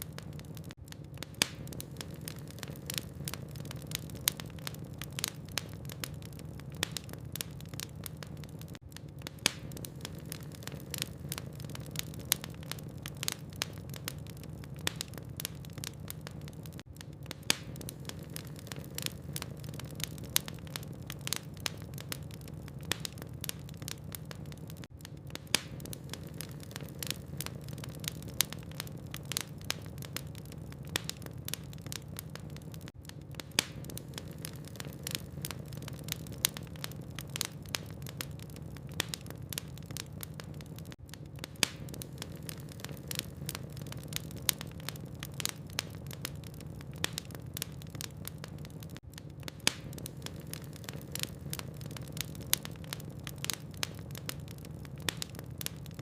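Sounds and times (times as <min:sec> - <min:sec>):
logs crackling in fireplace: 0:00.0 - 0:56.0.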